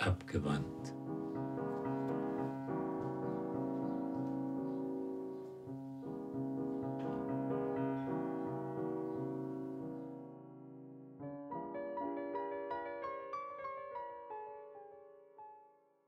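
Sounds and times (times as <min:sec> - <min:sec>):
piano playing sustained chords: 0:00.0 - 0:15.8.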